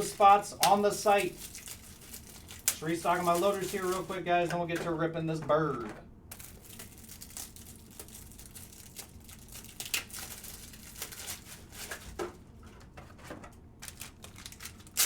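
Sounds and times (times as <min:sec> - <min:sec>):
crinkly plastic rustling: 0:00.0 - 0:15.0.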